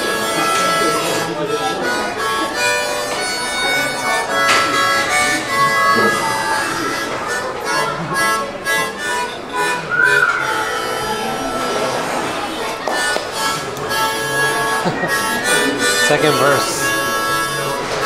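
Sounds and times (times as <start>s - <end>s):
harmonica melody with chords: 0.0s - 18.0s.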